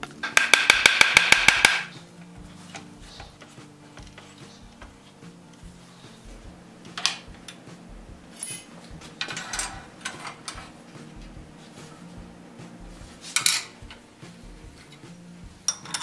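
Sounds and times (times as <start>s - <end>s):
iron plates clinking and clanking: 0.0s - 16.0s.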